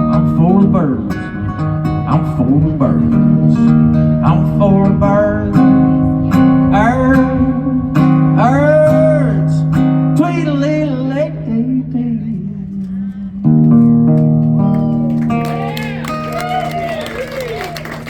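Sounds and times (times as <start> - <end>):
acoustic guitar strumming: 0.0 - 16.6.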